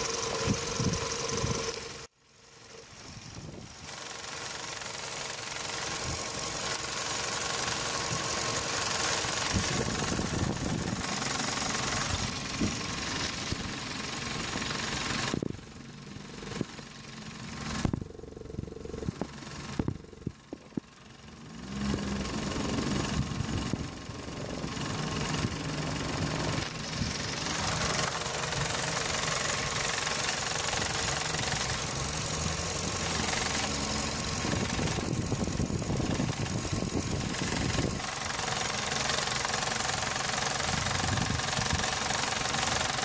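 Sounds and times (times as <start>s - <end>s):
car engine running with rattle: 0.0s - 43.0s.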